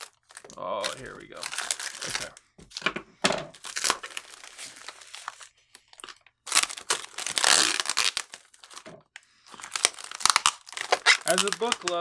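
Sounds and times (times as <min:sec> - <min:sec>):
wrapping tearing: 0:00.0 - 0:02.4, 0:03.6 - 0:08.9, 0:09.5 - 0:12.0
plastic and paper crinkling: 0:00.0 - 0:12.0.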